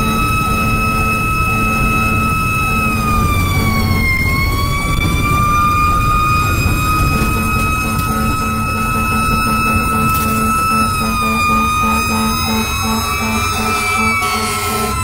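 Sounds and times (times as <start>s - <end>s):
fire engine siren: 0.0s - 15.0s
truck engine rumble: 0.0s - 15.0s.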